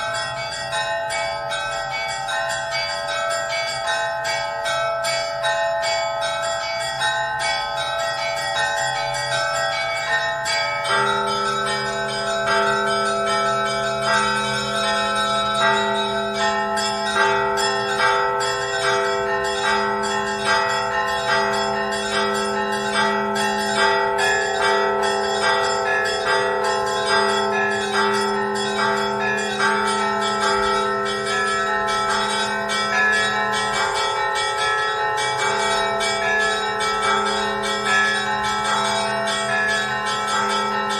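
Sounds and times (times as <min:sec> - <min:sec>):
church bells ringing: 0:00.0 - 0:40.9
deeper bell ringing: 0:05.4 - 0:40.9.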